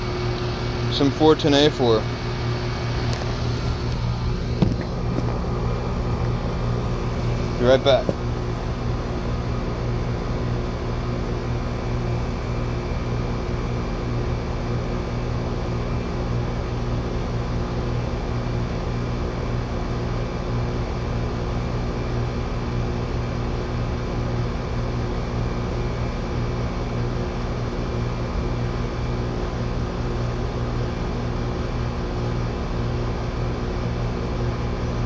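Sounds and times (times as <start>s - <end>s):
compressor electrical hum: 0.0s - 35.0s.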